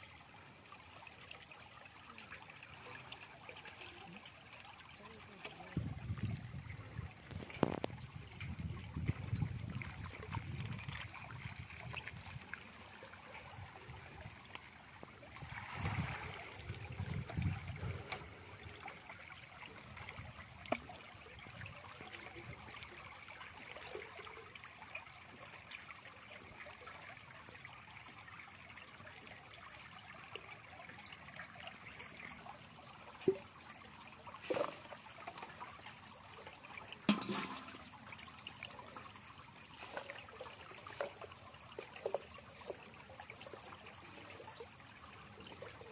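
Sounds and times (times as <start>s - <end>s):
water splashes: 0.0s - 45.9s
water trickling and dripping: 0.0s - 45.9s.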